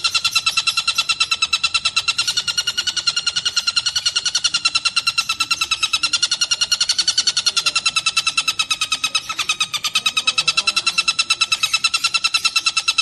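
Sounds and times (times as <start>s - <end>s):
kingfisher rapid trill: 0.0s - 13.0s.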